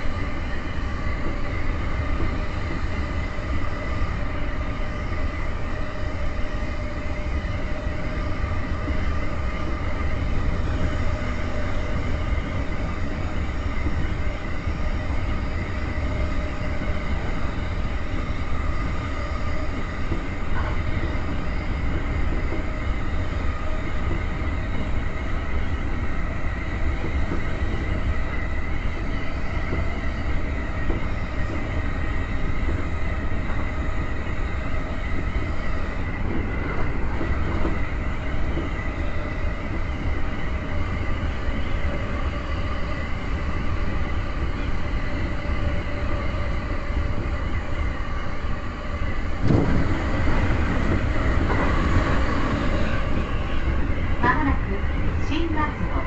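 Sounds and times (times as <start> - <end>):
electric train motor whine: 0.0 - 56.0
train wheels rumbling on rail: 0.0 - 56.0.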